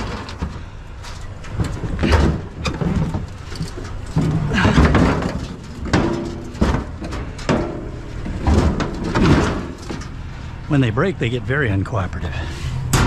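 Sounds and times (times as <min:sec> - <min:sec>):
metal grill scraping truck bed: 0:00.0 - 0:10.9.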